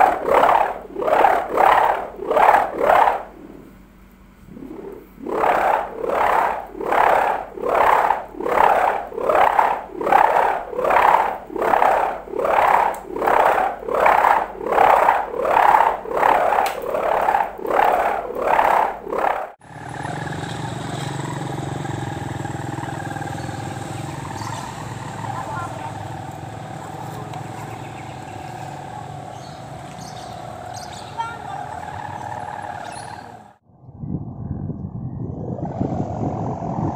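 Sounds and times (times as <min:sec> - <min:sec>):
steady drone with low hum: 0:00.0 - 0:20.0, 0:21.8 - 0:36.9
kite hummer pulsing moan: 0:00.0 - 0:36.9.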